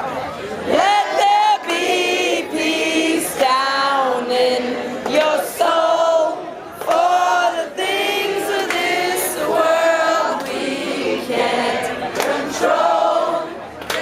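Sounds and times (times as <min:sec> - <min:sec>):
crowd singing together: 0:00.0 - 0:14.0.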